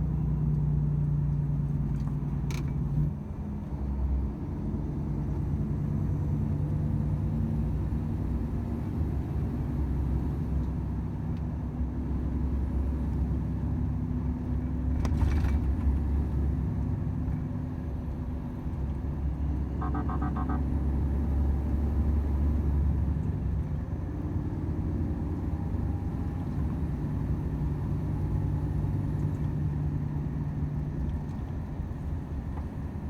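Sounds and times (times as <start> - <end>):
road rumble: 0.0 - 33.0
truck diesel engine droning: 3.0 - 33.0.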